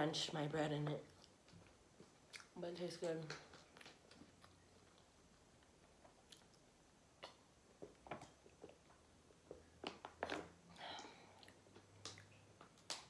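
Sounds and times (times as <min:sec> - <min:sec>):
person chewing with mouth clicks: 0:01.0 - 0:02.6, 0:03.4 - 0:13.0.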